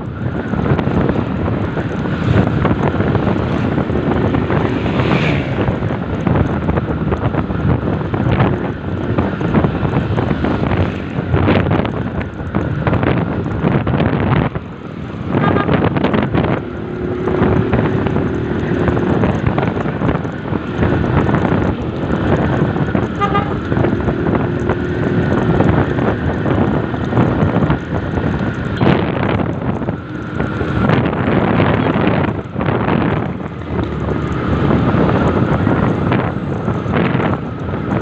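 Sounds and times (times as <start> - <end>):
motorcycle engine: 0.0 - 38.0
road noise: 0.0 - 38.0
wind rushing over microphone: 0.0 - 38.0.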